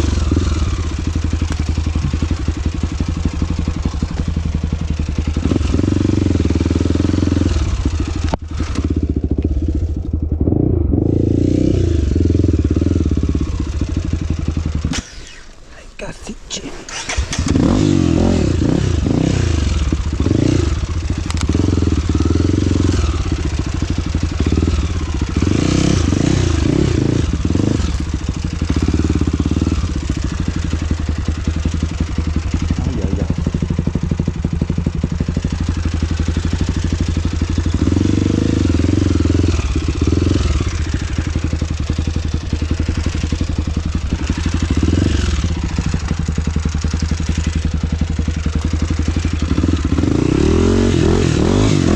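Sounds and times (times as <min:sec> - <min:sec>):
motorcycle engine revving: 0:00.0 - 0:15.8, 0:16.4 - 0:51.9.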